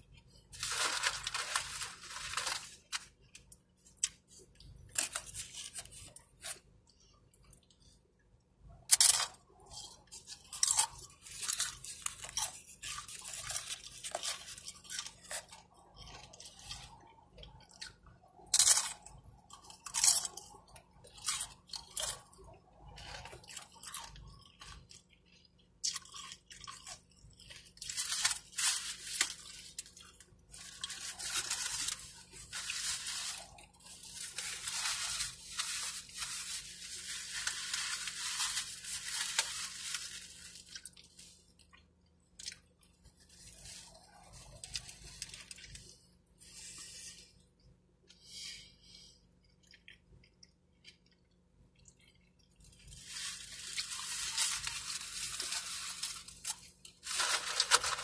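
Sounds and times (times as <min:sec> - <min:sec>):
chips crunched and chewed: 0:00.1 - 0:06.7, 0:08.9 - 0:46.0, 0:49.4 - 0:58.0.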